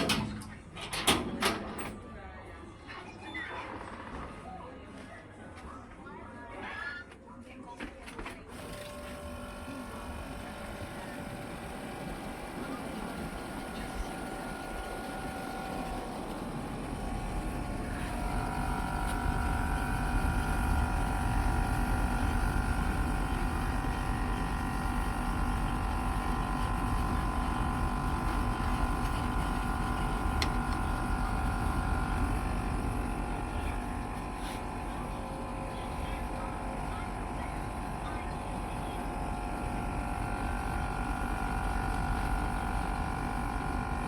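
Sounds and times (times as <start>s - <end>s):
air conditioner hum and whine: 8.1s - 44.0s.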